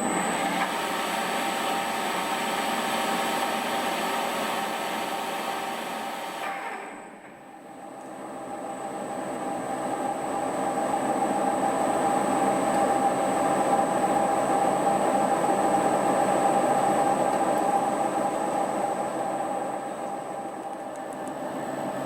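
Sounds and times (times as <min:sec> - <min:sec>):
milling machine whine: 0:00.0 - 0:22.0.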